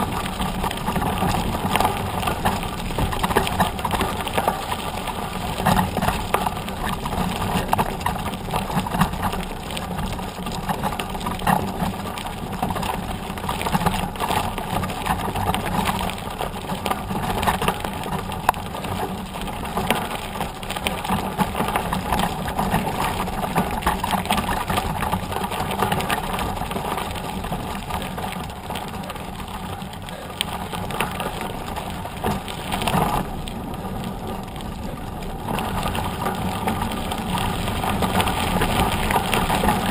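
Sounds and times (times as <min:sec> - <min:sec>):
bike rattling: 0:00.0 - 0:39.9
bike tyre crunching gravel: 0:00.0 - 0:39.9.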